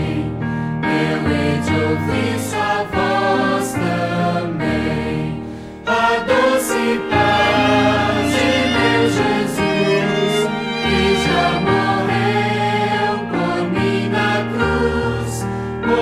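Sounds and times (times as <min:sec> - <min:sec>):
choir singing slow sacred piece: 0:00.0 - 0:16.0.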